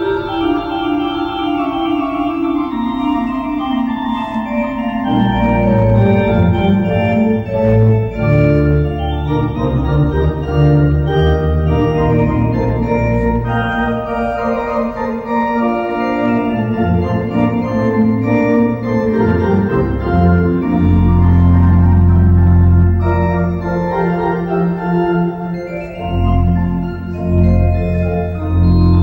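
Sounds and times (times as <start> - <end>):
organ chords: 0.0 - 29.0.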